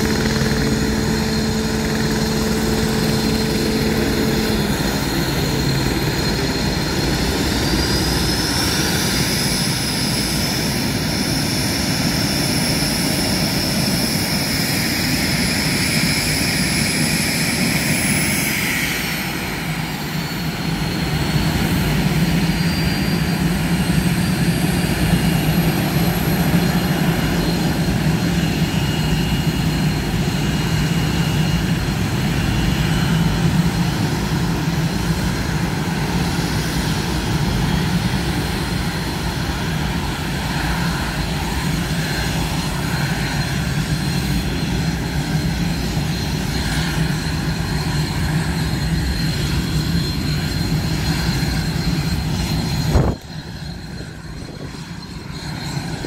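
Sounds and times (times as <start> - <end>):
high jet whine: 0.0 - 56.0
jet engine noise: 0.0 - 56.0.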